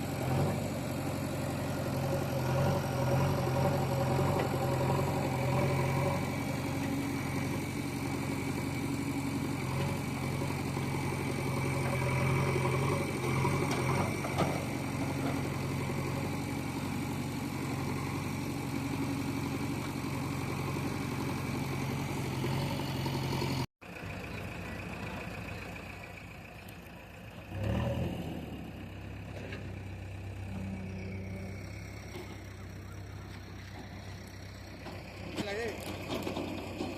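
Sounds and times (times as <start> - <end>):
diesel engine running steadily: 0.0 - 36.9.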